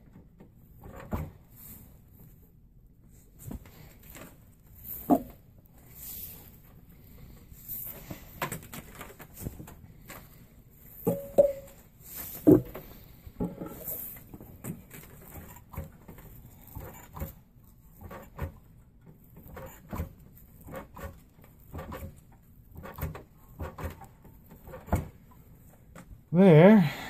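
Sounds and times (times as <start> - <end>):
rein strands rustling: 3.1 - 26.0.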